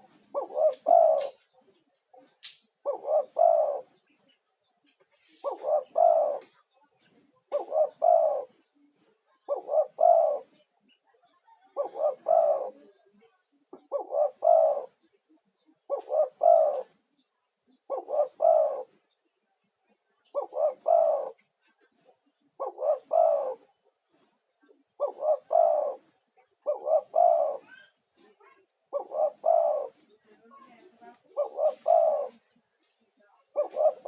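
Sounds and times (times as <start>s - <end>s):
dove cooing: 0.0s - 4.2s, 4.9s - 19.3s, 19.9s - 32.6s, 33.4s - 34.0s.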